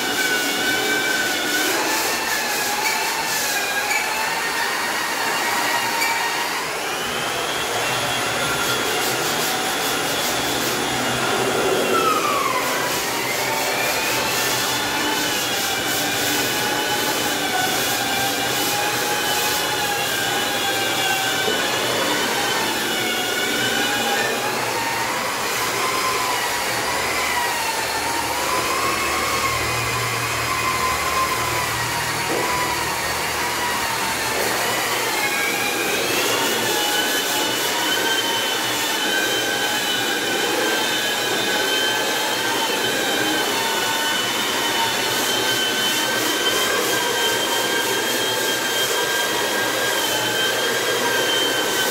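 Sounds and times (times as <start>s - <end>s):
electric sanders whining: 0.0s - 51.9s.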